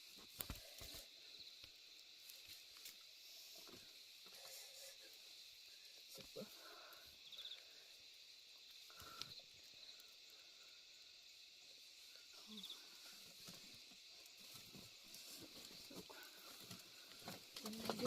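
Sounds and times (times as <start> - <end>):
faint high hiss: 0.0 - 18.0.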